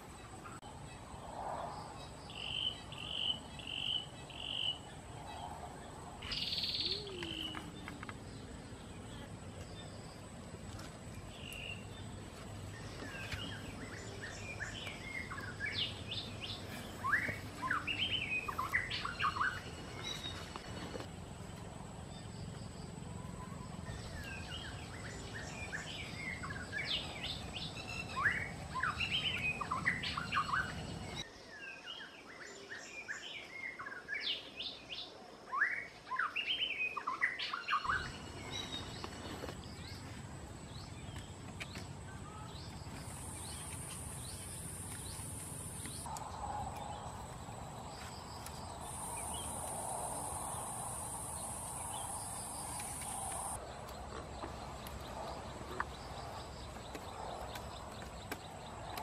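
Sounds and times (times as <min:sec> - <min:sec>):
small birds chirping: 0:01.7 - 0:31.3, 0:36.1 - 0:59.0.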